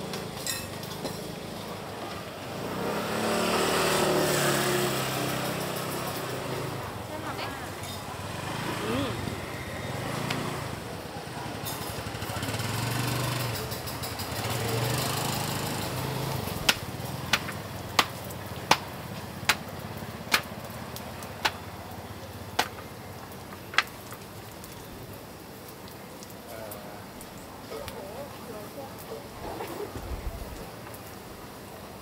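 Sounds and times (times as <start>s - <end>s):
street market noise: 0.0s - 32.0s.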